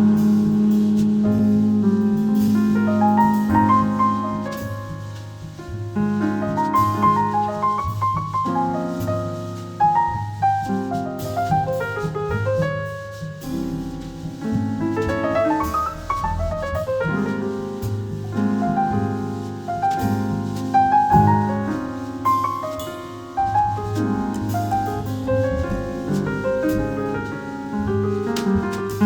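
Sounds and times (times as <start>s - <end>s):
double bass: 0.0s - 29.0s
drums: 0.0s - 29.0s
piano playing jazz: 0.0s - 29.0s.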